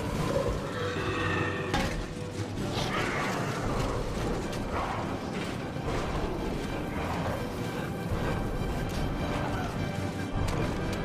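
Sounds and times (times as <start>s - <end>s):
background music: 0.0s - 11.0s
clanking and creaking din: 0.0s - 11.0s.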